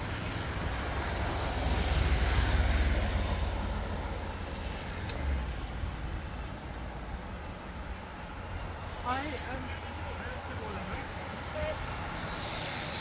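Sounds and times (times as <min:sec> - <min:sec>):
low roadside rumble: 0:00.0 - 0:13.0.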